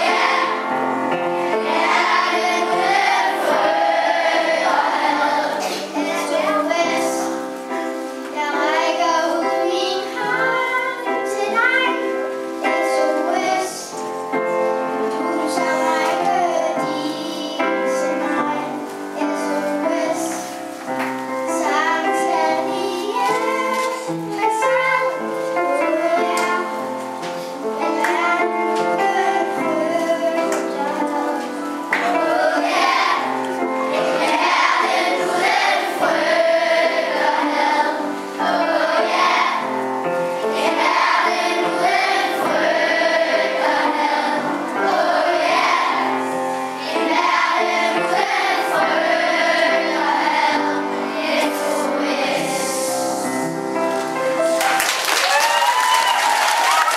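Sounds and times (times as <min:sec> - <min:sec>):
children's choir singing: 0:00.0 - 0:54.8.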